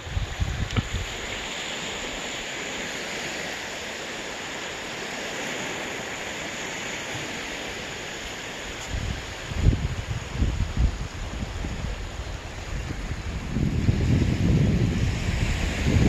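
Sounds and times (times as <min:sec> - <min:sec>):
waves washing onto sandy beach: 0:00.0 - 0:16.0.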